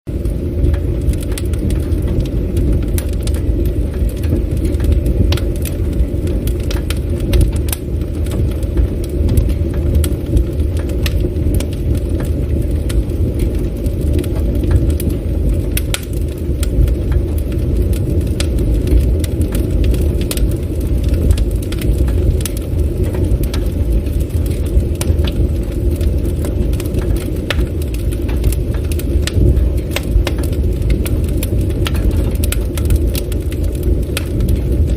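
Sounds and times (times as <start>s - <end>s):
burning wood crackling and popping: 0.1s - 34.9s
campfire flames rumbling: 0.1s - 34.9s.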